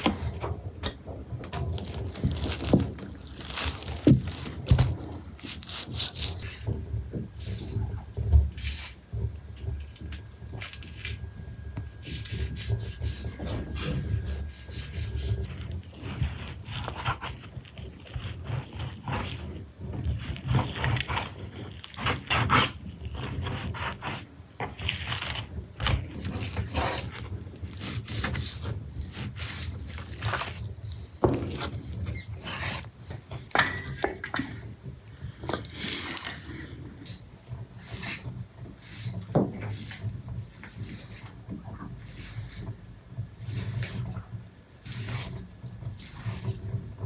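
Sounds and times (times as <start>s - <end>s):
scraping on hard surface: 0.0s - 47.0s.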